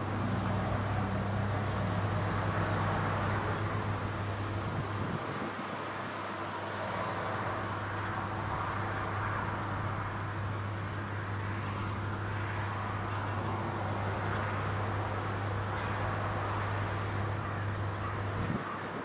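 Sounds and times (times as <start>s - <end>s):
harvester engine drone: 0.0s - 5.2s, 6.4s - 18.8s.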